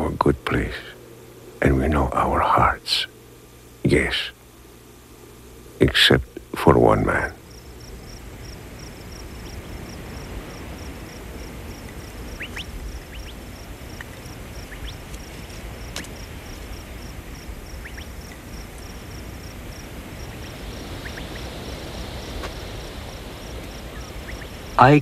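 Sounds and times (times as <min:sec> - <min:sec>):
insects chirping: 0:00.0 - 0:25.0
low rumble and hiss: 0:00.0 - 0:25.0.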